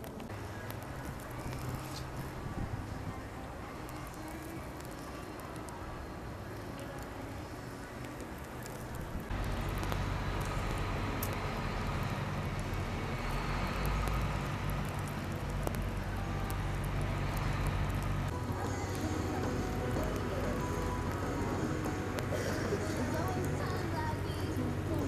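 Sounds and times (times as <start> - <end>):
low engine rumble: 0.0 - 25.0
street traffic: 0.0 - 25.0.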